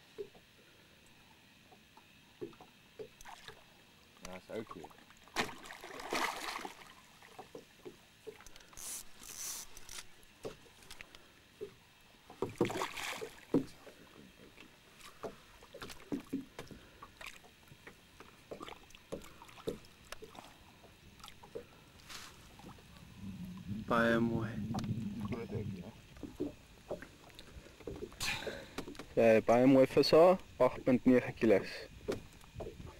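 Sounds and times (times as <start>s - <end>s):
water splashing around boat: 0.0s - 32.9s.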